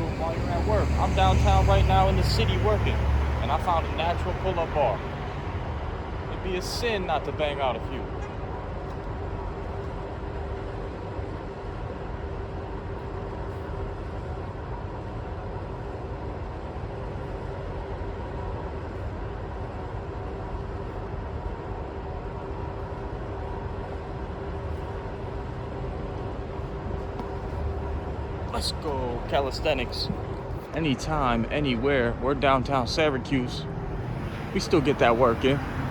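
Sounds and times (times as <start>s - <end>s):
constant mechanical hum: 0.0s - 35.9s
low city rumble: 0.0s - 35.9s.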